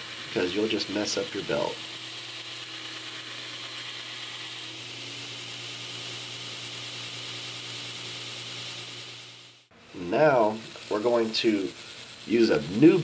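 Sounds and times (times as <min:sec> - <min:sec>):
belt grinder grinding steel: 0:00.0 - 0:13.0
motor hum: 0:00.0 - 0:13.0.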